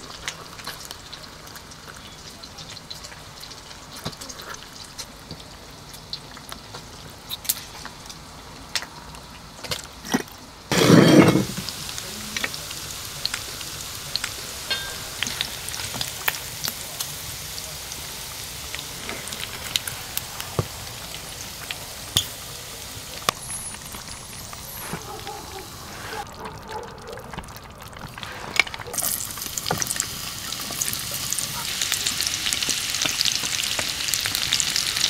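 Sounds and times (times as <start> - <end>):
food sizzling in a pan: 0.0 - 8.4, 10.7 - 26.4, 28.1 - 35.0.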